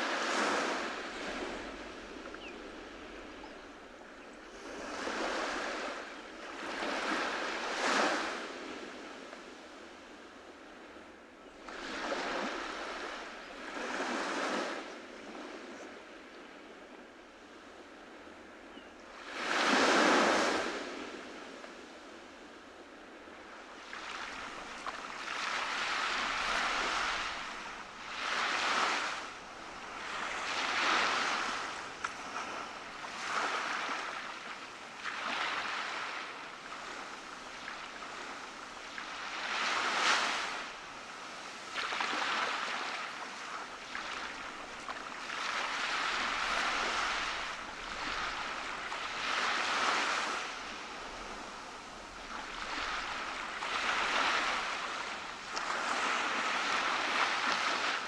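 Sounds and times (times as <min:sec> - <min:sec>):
waves washing on beach: 0:00.0 - 0:58.0.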